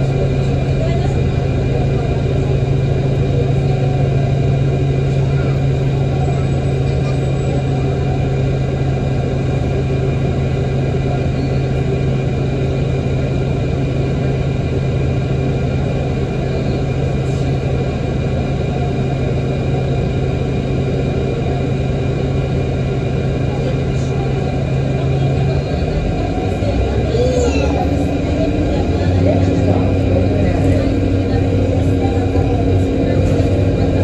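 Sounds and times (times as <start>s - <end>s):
bus engine idling: 0.0s - 34.0s.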